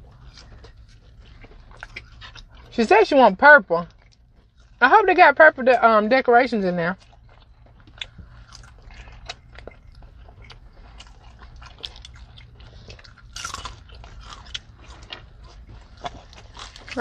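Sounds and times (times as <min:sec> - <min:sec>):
low steady hum: 0:00.0 - 0:17.0
people chewing crunchy food: 0:00.0 - 0:17.0.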